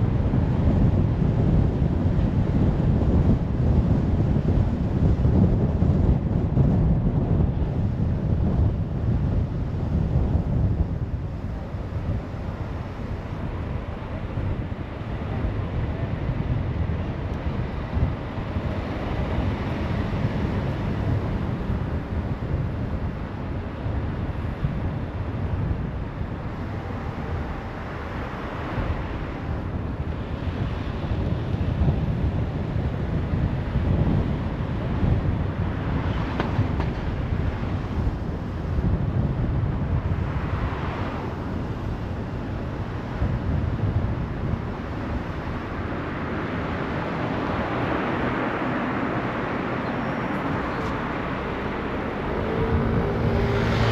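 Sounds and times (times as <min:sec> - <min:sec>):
car road and engine rumble: 0:00.0 - 0:53.9
wind buffeting microphone: 0:00.0 - 0:53.9.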